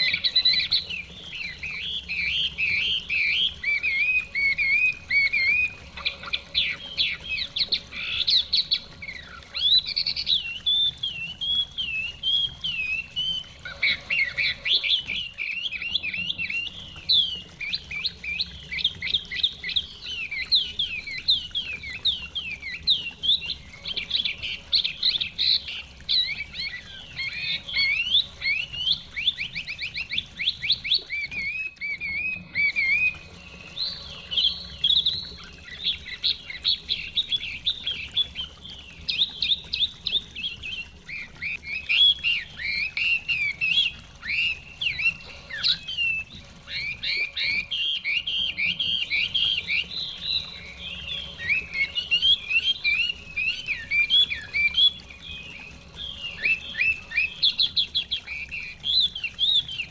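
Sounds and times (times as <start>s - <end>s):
bird singing trills and whistles: 0.0s - 59.9s
running stream: 0.0s - 59.9s.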